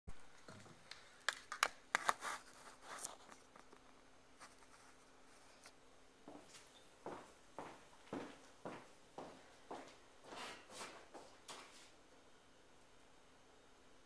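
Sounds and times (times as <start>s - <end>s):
faint steady hum: 0.1s - 14.0s.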